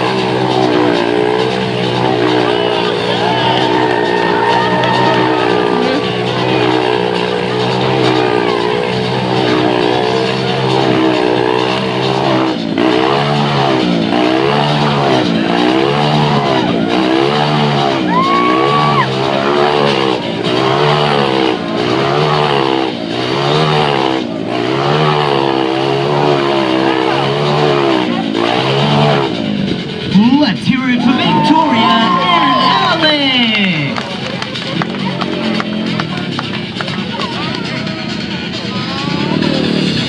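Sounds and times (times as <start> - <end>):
motorcycle engine running hard: 0.0 - 31.9, 32.9 - 40.0.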